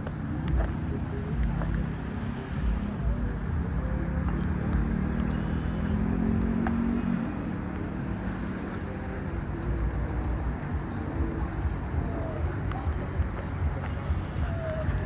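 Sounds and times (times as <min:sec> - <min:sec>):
low traffic rumble: 0:00.0 - 0:15.0
passing vehicle engine hum: 0:00.0 - 0:15.0.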